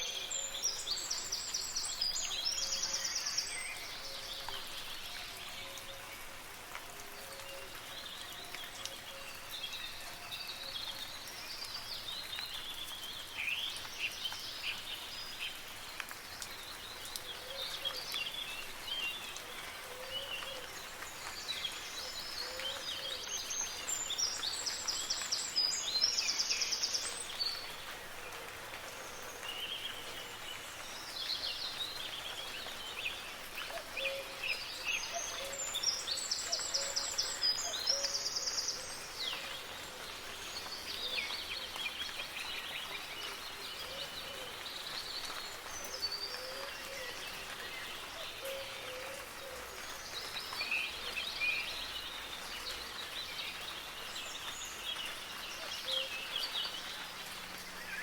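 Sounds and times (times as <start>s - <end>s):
soft rain hissing: 0.0s - 58.0s
songbirds chirping and singing: 7.2s - 58.0s.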